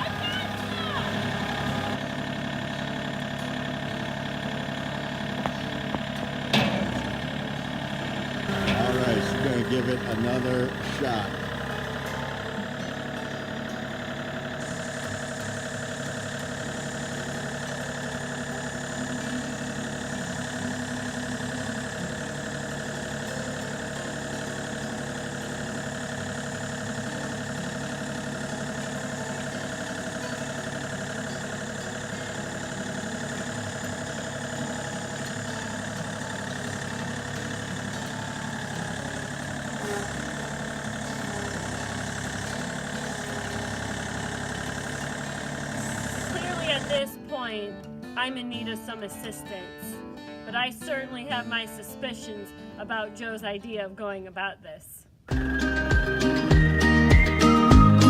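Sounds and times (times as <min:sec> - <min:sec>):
tractor engine running: 0:00.0 - 0:53.7, 0:55.2 - 0:58.0.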